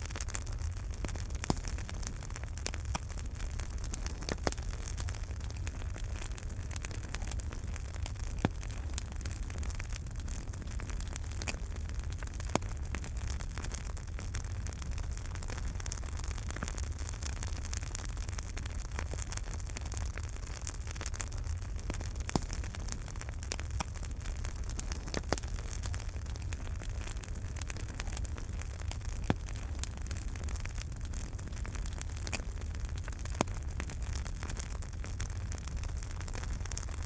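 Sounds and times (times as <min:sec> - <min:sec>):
fire pops: 0:00.0 - 0:37.0
wood fire crackling: 0:00.0 - 0:37.0.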